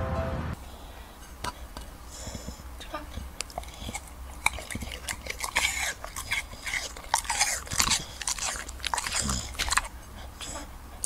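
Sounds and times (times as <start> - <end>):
dog crunching apple: 1.5 - 10.6.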